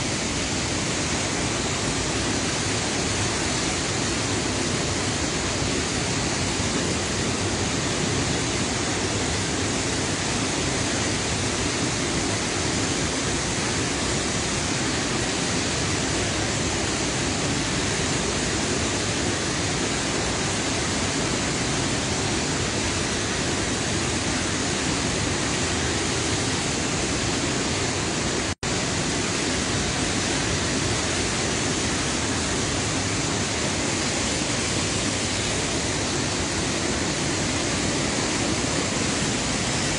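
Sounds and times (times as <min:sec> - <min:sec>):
floodwater rushing over spillway: 0:00.0 - 0:39.9.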